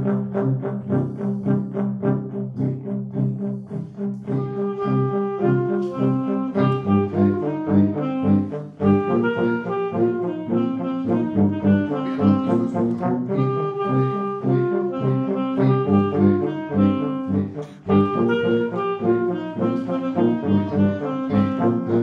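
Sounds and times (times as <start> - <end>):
brass band playing: 0.0 - 22.0.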